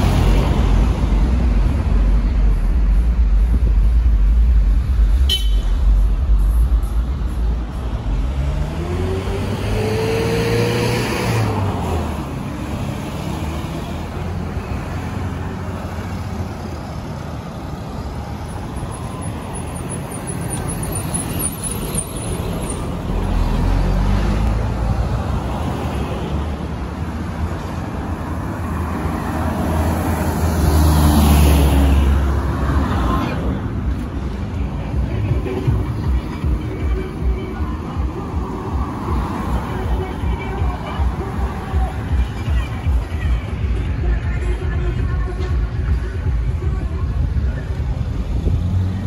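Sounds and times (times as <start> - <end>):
cars and truck passing by: 0.0 - 49.0
steady road noise: 0.0 - 49.0.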